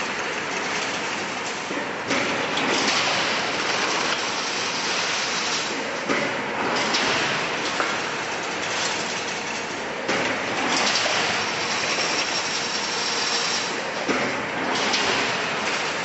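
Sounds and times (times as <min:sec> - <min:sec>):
weaving machine clattering: 0:00.2 - 0:16.0.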